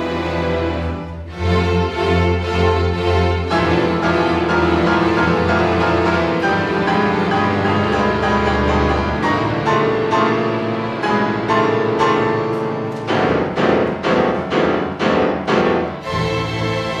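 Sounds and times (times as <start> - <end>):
piano: 0.0 - 17.0
piano repeated chords: 0.0 - 17.0
string orchestra: 0.0 - 17.0.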